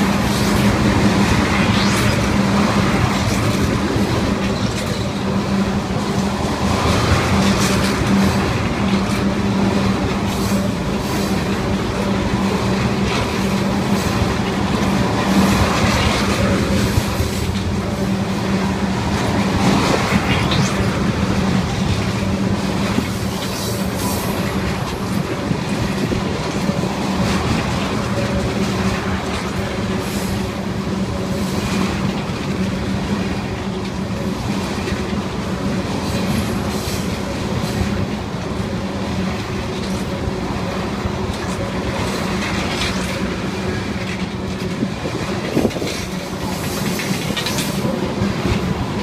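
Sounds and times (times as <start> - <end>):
train wheels rumbling on rails: 0.0 - 49.0
wheels clacking over rail joints: 0.0 - 49.0.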